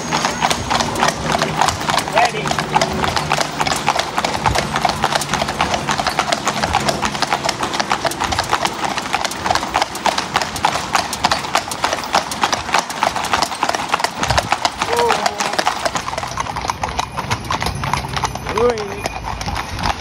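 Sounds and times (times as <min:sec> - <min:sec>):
horse hooves clip-clopping on road: 0:00.0 - 0:20.0.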